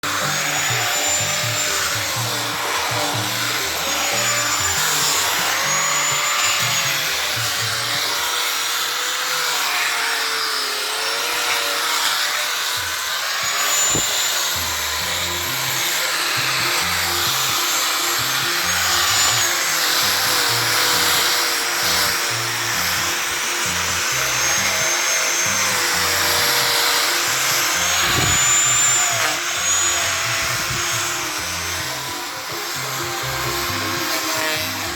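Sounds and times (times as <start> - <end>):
background music: 0.0 - 8.4, 13.7 - 34.9
electric grinder on wood: 0.0 - 34.9.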